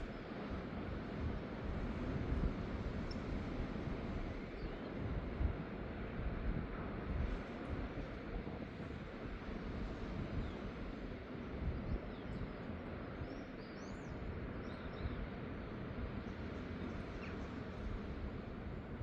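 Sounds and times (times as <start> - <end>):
sea surf at the shore: 0.0 - 19.0
wind: 0.0 - 19.0.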